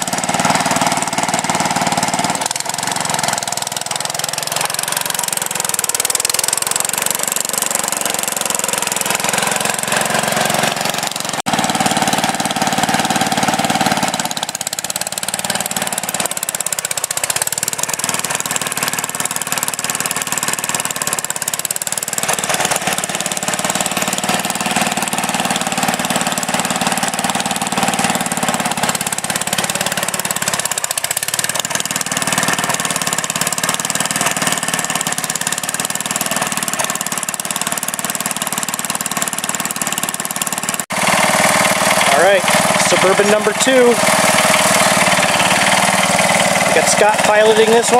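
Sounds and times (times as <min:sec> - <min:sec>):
blade pushing dirt: 0:00.0 - 0:47.9
garden tractor engine running: 0:00.0 - 0:47.9.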